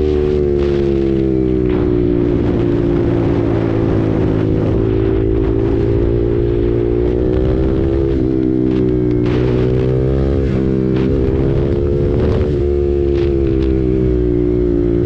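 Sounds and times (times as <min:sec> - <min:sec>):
motorcycle engine cruising: 0:00.0 - 0:15.0
wind rushing over microphone: 0:00.0 - 0:15.0.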